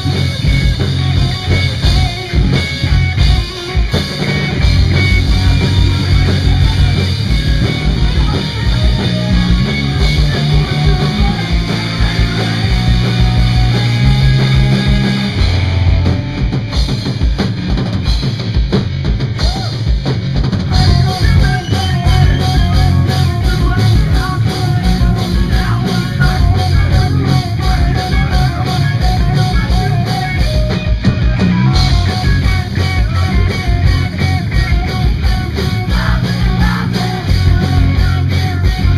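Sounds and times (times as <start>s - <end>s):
electric guitars: 0.0s - 38.9s
rock drum beat: 0.0s - 38.9s.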